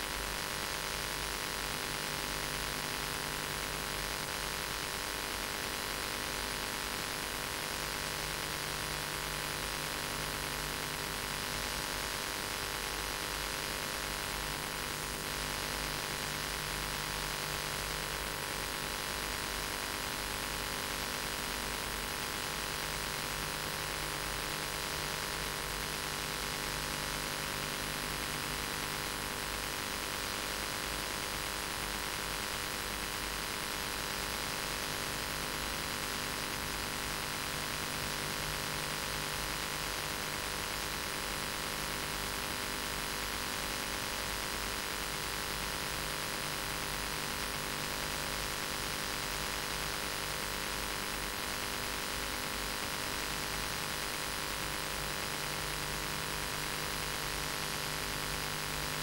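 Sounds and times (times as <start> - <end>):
tape hiss: 0.0 - 59.0.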